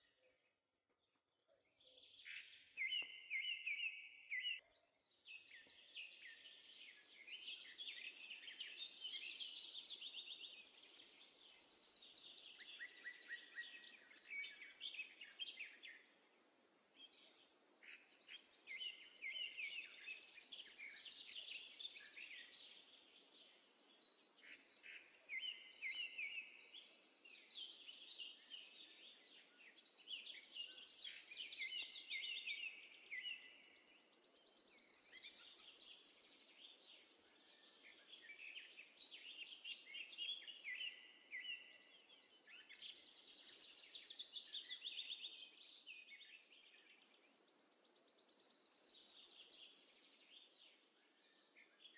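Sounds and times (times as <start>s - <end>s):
birds chirping and trilling: 1.2s - 16.2s, 17.0s - 51.9s.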